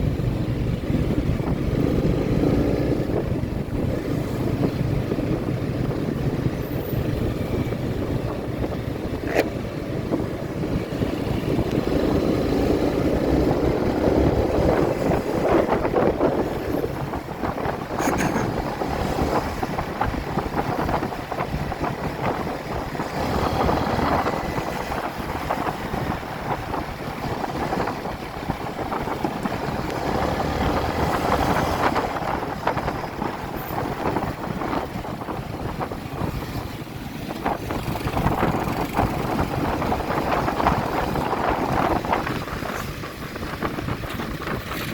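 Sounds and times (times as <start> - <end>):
wind noise on microphone: 0.0 - 44.9.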